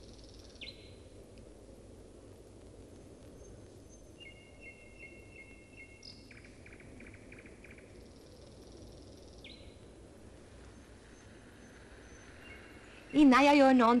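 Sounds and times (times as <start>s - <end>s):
songbirds singing: 0.0s - 1.3s, 2.9s - 14.0s
film soundtrack hiss and hum: 0.0s - 14.0s.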